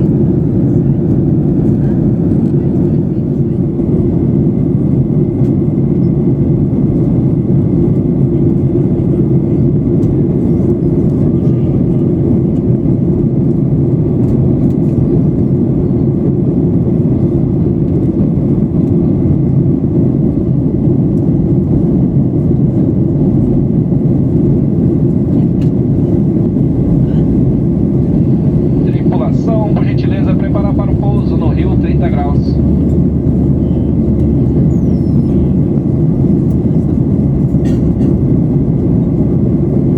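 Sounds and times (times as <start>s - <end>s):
airplane cabin jet engine rush: 0.0s - 39.9s.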